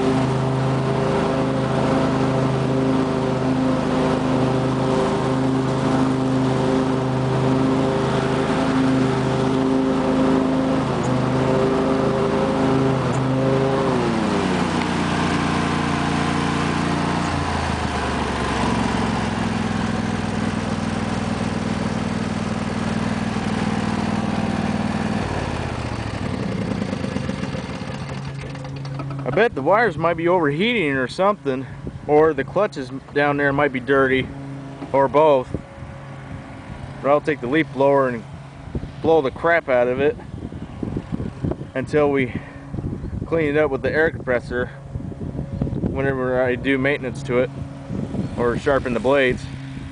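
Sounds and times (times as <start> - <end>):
lawn tractor engine mowing: 0.0 - 49.9.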